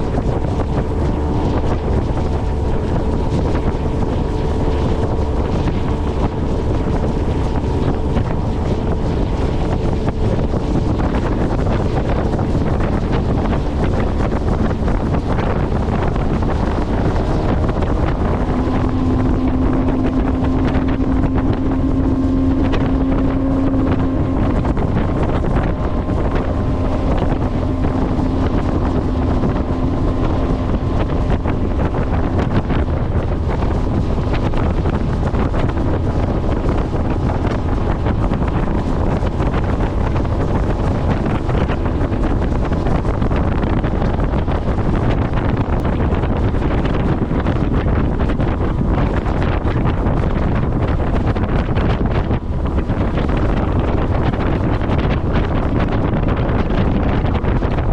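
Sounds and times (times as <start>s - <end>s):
motorboat engine running: 0.0s - 57.9s
wind buffeting microphone: 0.0s - 57.9s.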